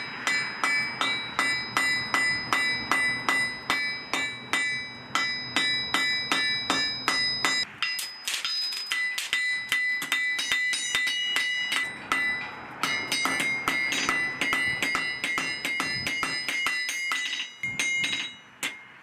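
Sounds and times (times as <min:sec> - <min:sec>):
hammer striking steel on anvil: 0:00.0 - 0:19.0.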